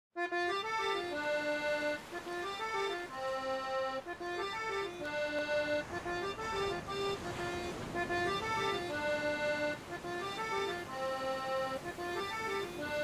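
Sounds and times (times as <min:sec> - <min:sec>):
instrumental theme tune: 0:00.2 - 0:13.0.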